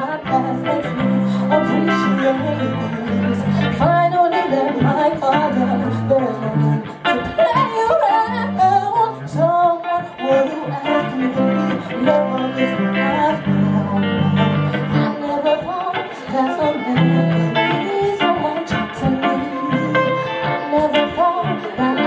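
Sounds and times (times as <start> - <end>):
guitar accompaniment: 0.0 - 22.0
woman singing: 0.0 - 22.0.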